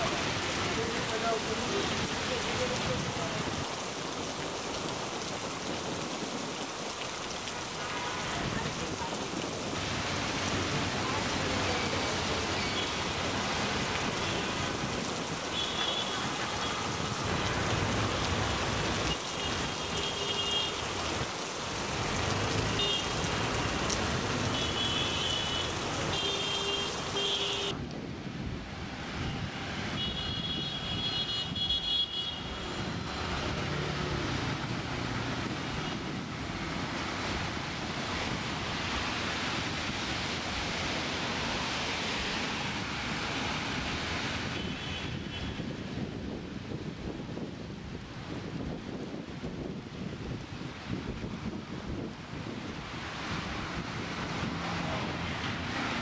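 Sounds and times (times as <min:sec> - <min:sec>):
rain hiss on street: 0:00.0 - 0:56.0
traffic: 0:00.0 - 0:56.0.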